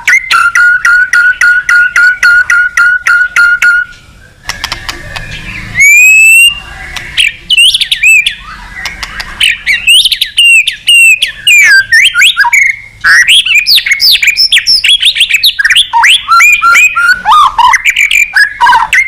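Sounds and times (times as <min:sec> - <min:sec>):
bird singing clear whistles: 0:00.0 - 0:04.0, 0:05.2 - 0:19.0.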